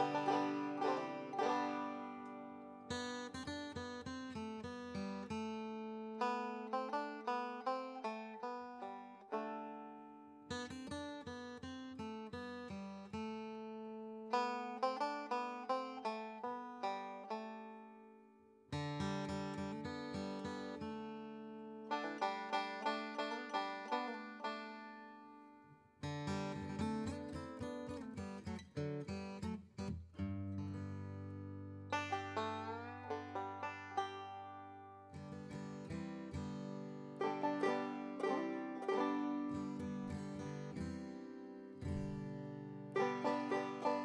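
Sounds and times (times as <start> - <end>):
strumming and bass notes: 0.0 - 11.6, 18.8 - 25.1, 26.0 - 44.0
acoustic country music: 0.0 - 18.0, 18.7 - 44.0
plucked string instrument melody: 0.0 - 44.0.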